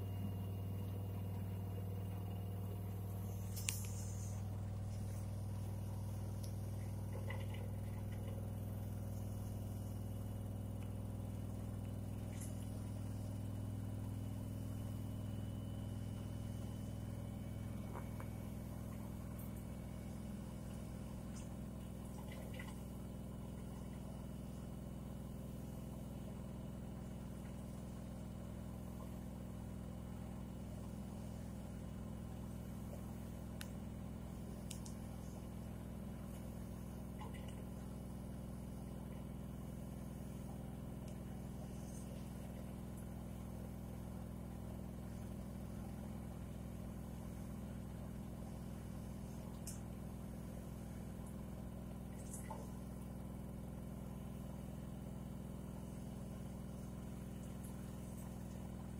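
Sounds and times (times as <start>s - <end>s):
washing machine humming: 0.0s - 58.9s.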